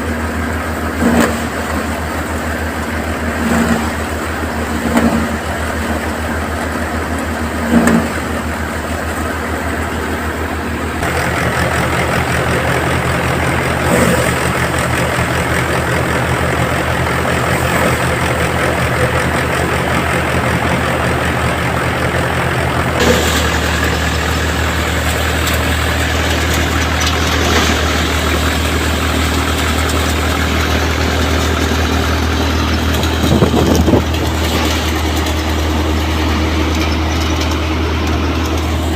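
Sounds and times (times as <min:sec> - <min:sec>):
thresher machine noise: 0:00.0 - 0:38.9
tractor engine running: 0:00.0 - 0:38.9.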